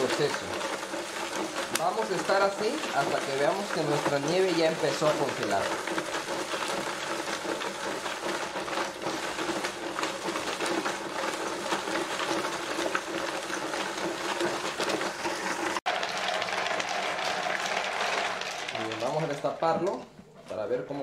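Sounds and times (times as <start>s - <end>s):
ice and salt grinding against container: 0.0s - 21.0s.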